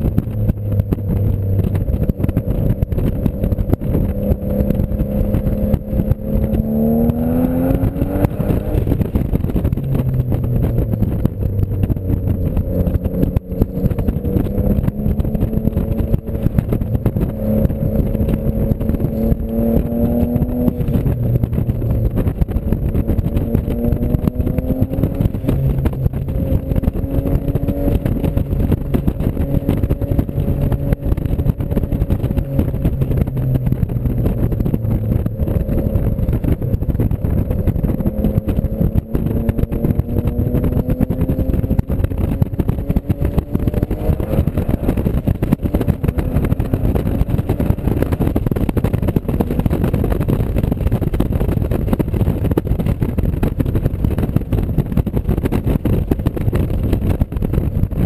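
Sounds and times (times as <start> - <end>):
car engine accelerating: 0.0 - 58.0
low rumble: 0.0 - 58.0.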